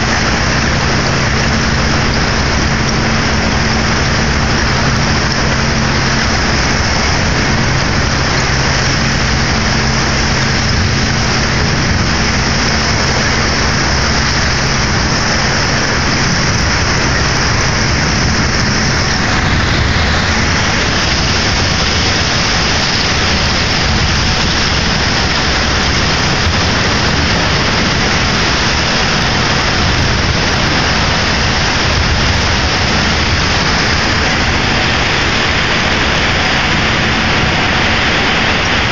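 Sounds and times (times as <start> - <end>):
ferry engine running: 0.0 - 38.9
water and ice churning along hull: 0.0 - 38.9.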